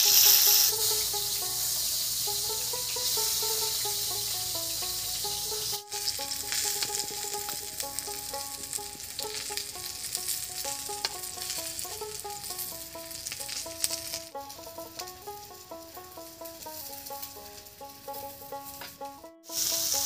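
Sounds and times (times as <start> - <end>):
background music: 0.0 - 20.0
eggplant sizzling in oil: 0.0 - 20.0.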